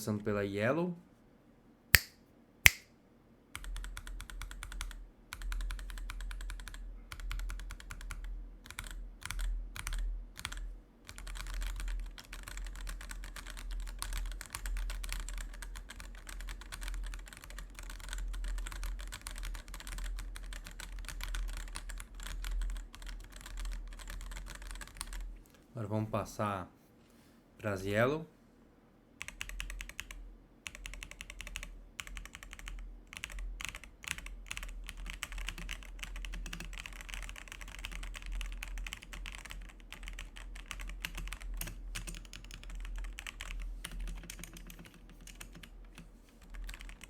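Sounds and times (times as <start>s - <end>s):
fast typing on mechanical keyboard: 3.6s - 25.3s, 29.2s - 47.0s.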